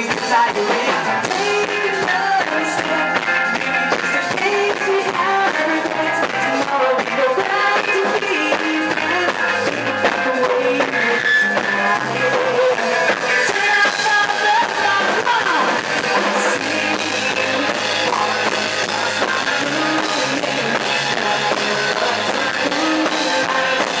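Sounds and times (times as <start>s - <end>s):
drum kit: 0.0s - 24.0s
electric guitar: 0.0s - 24.0s.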